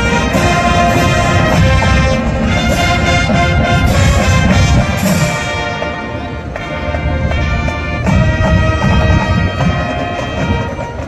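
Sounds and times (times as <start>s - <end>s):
drum strikes: 0.0s - 6.0s, 6.6s - 11.0s
marching band brass: 0.0s - 11.0s.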